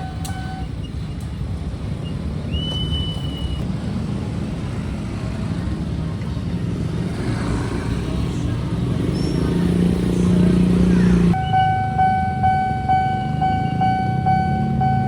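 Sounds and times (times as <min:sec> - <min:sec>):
low rumble of motor vehicles: 0:00.0 - 0:15.0.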